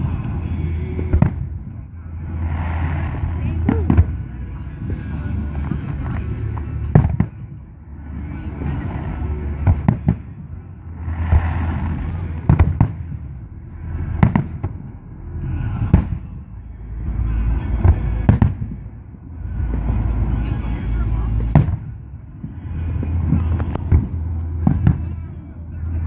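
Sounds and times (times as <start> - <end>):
low rumbling echo: 0.0 - 26.0.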